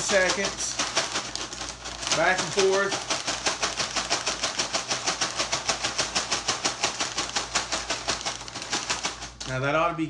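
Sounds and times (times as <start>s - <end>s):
chips rattling in shaken bag: 0.0s - 9.8s.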